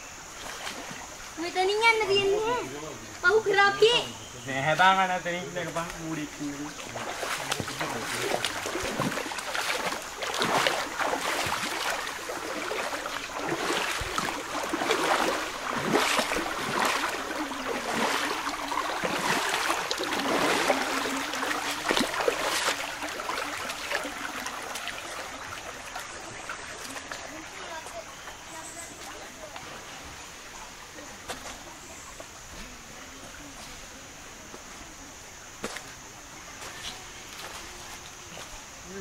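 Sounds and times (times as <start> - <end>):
river water rushing: 0.0 - 33.5
water splashing: 0.0 - 39.0.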